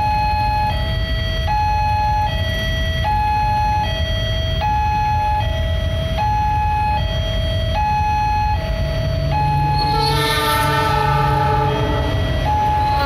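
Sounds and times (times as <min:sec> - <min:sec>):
idling traffic rumble: 0:00.0 - 0:13.0
two-tone crossing alarm: 0:00.0 - 0:13.0.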